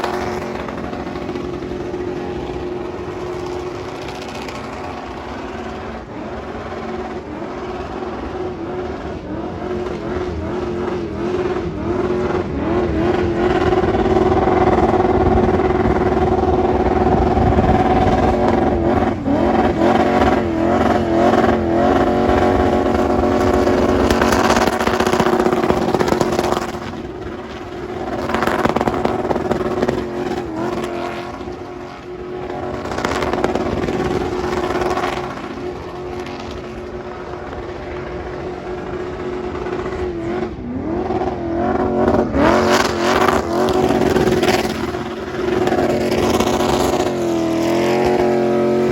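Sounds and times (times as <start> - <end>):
car engine revving hard: 0.0 - 48.9.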